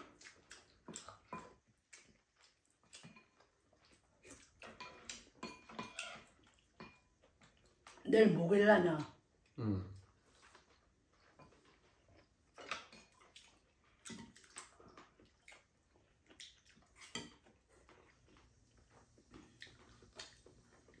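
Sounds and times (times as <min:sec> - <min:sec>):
wet chewing and mouth smacks: 0:00.0 - 0:08.0, 0:09.3 - 0:21.0.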